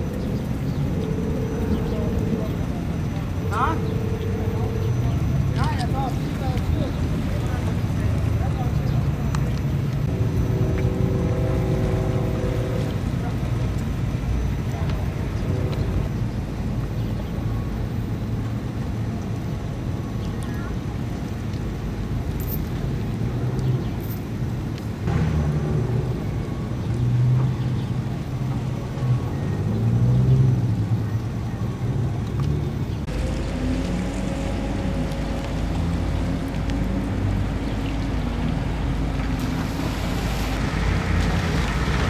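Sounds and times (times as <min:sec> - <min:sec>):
vehicle engines idling: 0:00.0 - 0:42.0.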